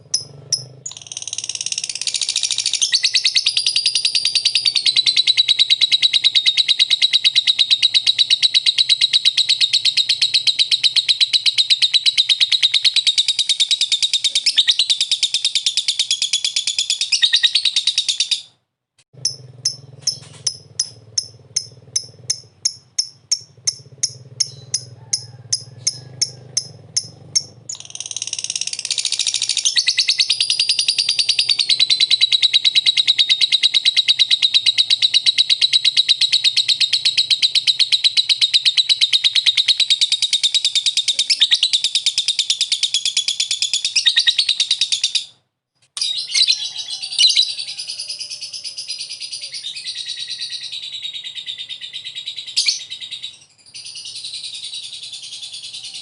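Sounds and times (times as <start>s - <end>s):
bird chirping and trilling: 0.0s - 18.5s, 19.2s - 45.4s, 46.0s - 56.0s.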